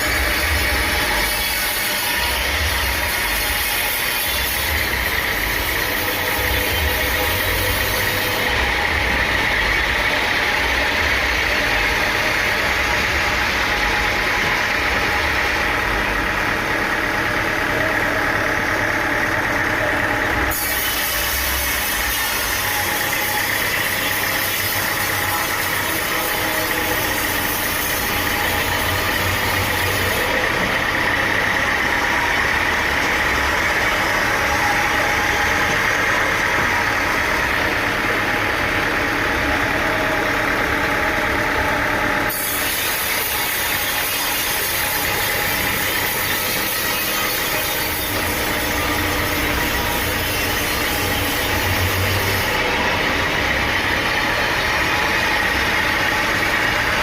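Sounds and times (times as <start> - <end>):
sawmill engine droning: 0.0 - 57.0.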